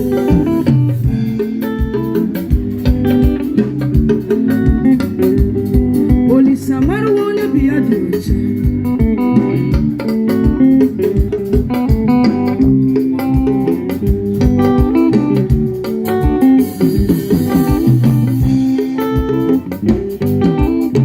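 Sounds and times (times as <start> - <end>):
bass: 0.0 - 21.0
plucked guitar melody: 0.0 - 21.0
steady drum beat: 0.0 - 21.0.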